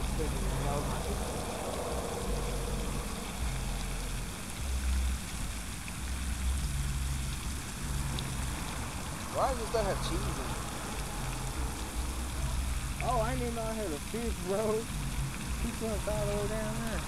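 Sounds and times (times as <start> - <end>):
low rumble: 0.0 - 17.0
steady outdoor hiss: 0.0 - 17.0.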